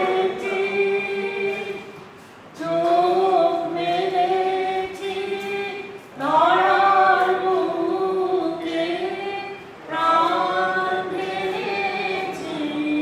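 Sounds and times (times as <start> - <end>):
voices singing long notes: 0.0 - 13.0.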